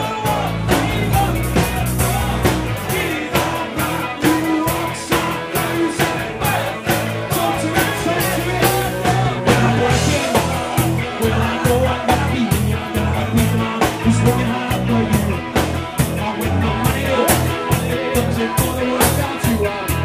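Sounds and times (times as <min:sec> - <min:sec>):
electric guitar: 0:00.0 - 0:20.0
live rock band playing: 0:00.0 - 0:20.0
person singing into microphone: 0:00.0 - 0:20.0.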